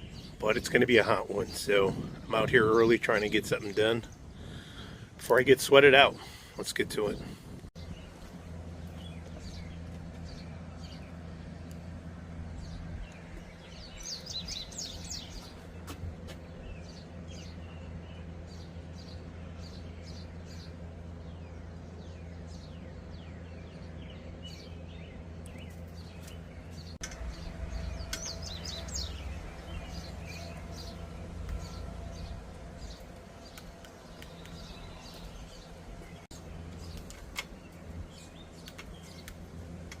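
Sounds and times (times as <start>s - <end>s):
low background hum: 0.0s - 40.0s
small birds chirping: 0.0s - 40.0s.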